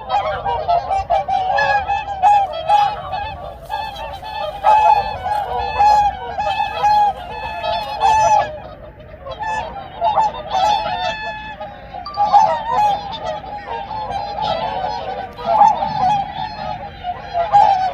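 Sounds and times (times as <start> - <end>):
swans honking: 0.0 - 17.9.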